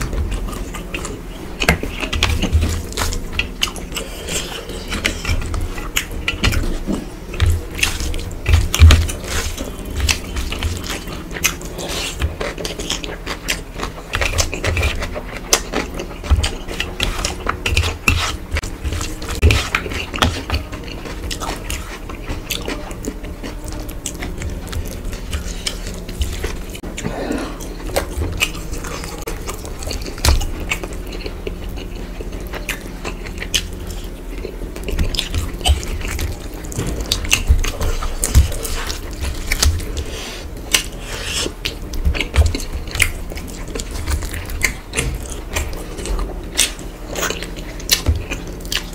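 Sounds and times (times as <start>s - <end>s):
chewing and mouth smacks: 0.0s - 48.9s.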